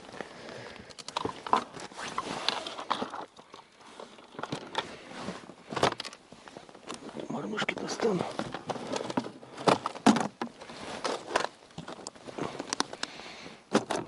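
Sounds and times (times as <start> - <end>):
rustling of handling: 0.0 - 14.0.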